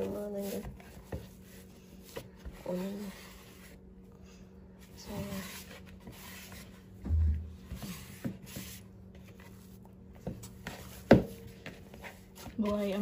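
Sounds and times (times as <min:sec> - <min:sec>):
hands kneading dough: 0:00.0 - 0:04.0, 0:04.6 - 0:13.0.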